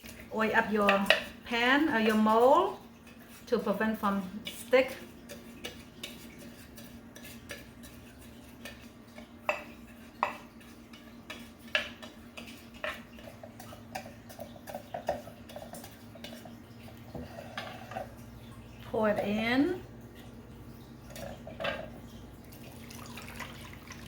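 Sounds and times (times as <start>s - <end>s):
utensils clinking against cookware: 0.0s - 19.8s.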